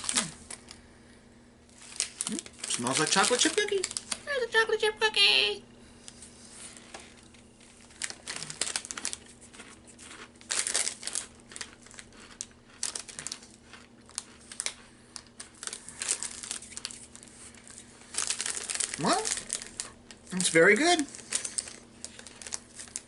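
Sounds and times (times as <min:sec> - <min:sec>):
plastic snack bag crinkling: 0:00.0 - 0:00.8, 0:01.7 - 0:04.4, 0:06.8 - 0:23.0.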